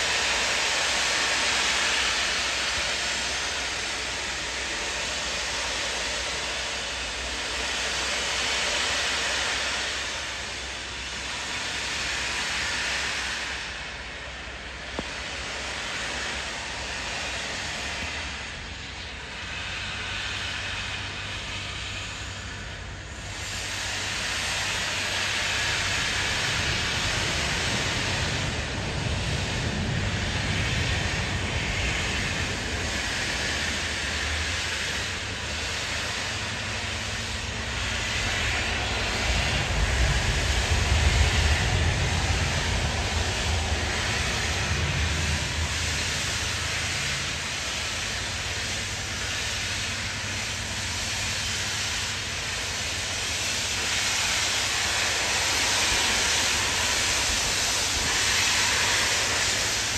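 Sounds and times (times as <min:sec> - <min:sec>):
low locomotive rumble: 0:00.0 - 0:59.9
steam hissing and pulsing: 0:00.0 - 0:59.9.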